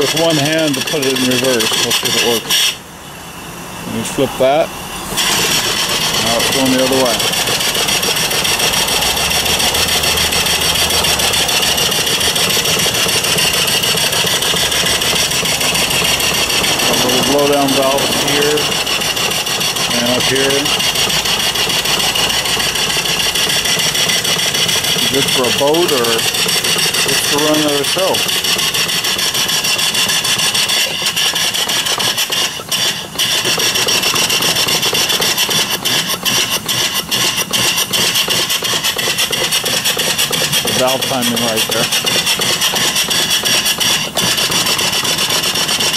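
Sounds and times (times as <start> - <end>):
steam engine running: 0.0 - 45.9
steam exhaust hissing in puffs: 0.0 - 45.9.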